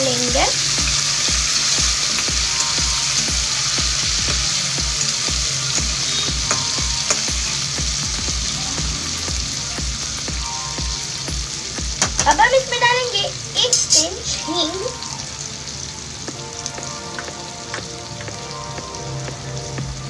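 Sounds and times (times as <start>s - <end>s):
lentils sizzling in hot oil: 0.0s - 20.0s.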